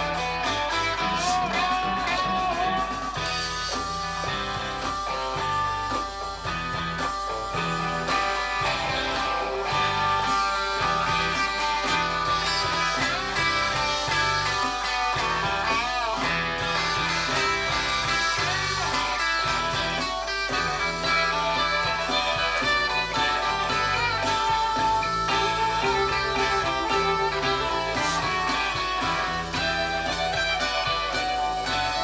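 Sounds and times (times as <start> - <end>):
electric guitar: 0.0 - 32.0
recorded rock track: 0.0 - 32.0
repeating bass line: 0.0 - 32.0.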